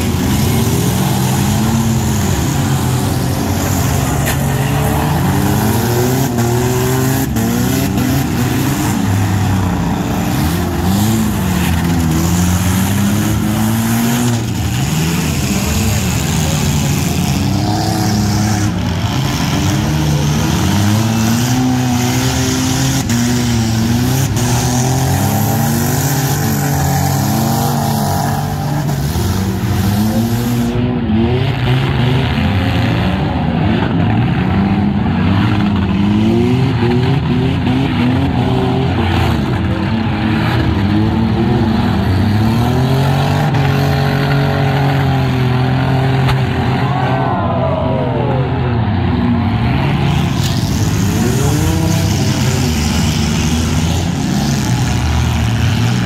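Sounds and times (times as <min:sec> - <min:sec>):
car engines revving: 0:00.0 - 0:56.0
cars ramming each other: 0:00.0 - 0:56.0.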